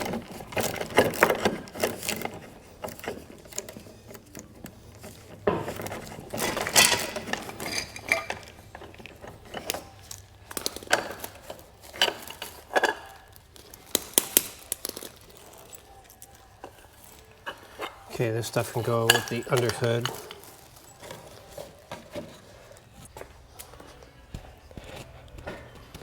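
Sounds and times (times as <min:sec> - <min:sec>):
metal parts clinking: 0:00.0 - 0:23.1
rustling: 0:00.0 - 0:26.0.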